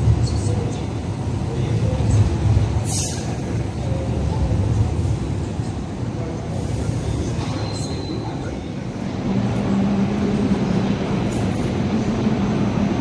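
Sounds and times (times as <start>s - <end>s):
light rail rumble on track: 0.0s - 13.0s.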